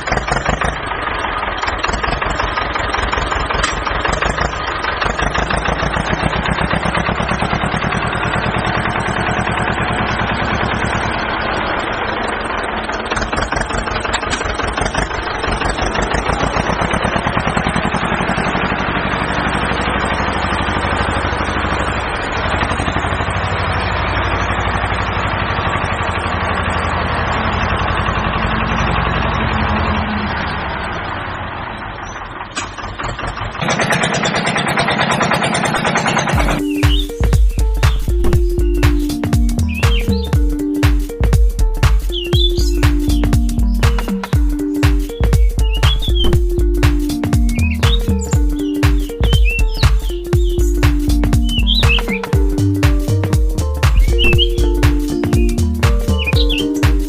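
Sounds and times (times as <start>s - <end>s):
small tractor engine running: 0.0s - 57.0s.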